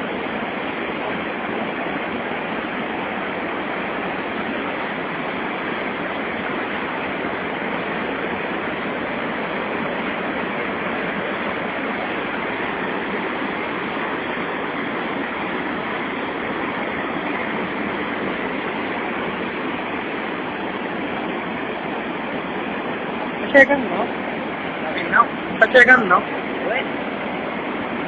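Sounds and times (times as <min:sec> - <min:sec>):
river rapids rushing: 0:00.0 - 0:28.0.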